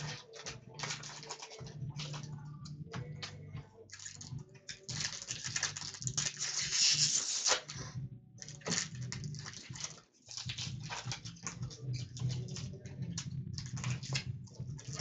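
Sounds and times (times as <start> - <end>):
cards and wrappers rustling: 0.0 - 2.4, 3.0 - 7.8, 8.4 - 15.0.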